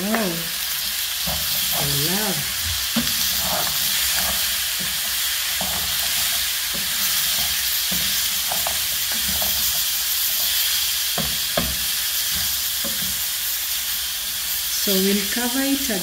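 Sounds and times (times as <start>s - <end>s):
food sizzling in a pot: 0.0s - 16.0s
wooden spoon stirring and scraping: 0.1s - 14.6s.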